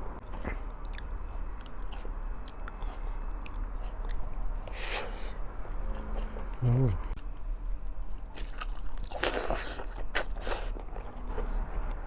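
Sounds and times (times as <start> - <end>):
person chewing food: 0.2 - 5.4, 6.0 - 12.0.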